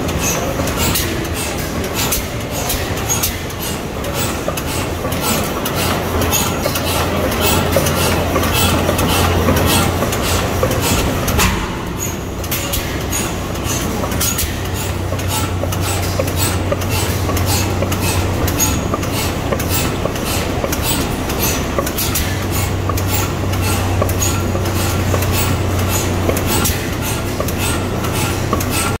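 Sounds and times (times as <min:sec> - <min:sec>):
engine running with fast clicks: 0:00.0 - 0:29.0.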